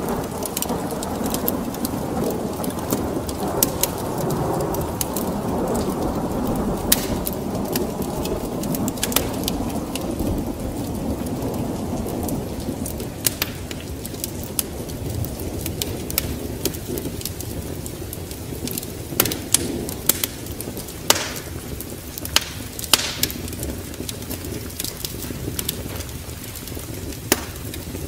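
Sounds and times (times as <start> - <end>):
rolling thunder: 0.0 - 28.0
steady rain: 0.0 - 28.0
wood fire crackling and popping: 0.0 - 28.0.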